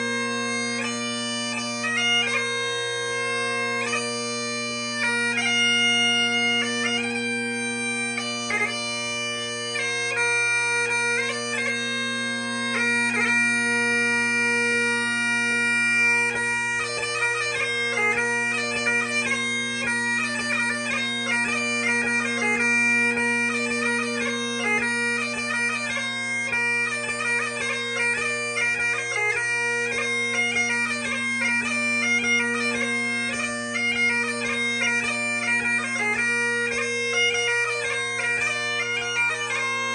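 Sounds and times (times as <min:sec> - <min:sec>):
bagpipe chanter melody: 0:00.0 - 0:39.9
bagpipe drones: 0:00.0 - 0:39.9.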